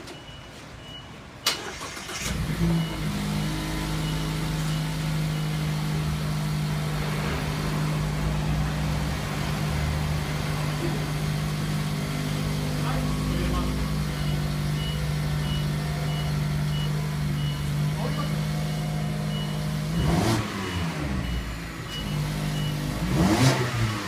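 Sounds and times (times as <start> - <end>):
car engine cranking and starting: 1.4 - 24.0
car engine idling: 1.5 - 24.0.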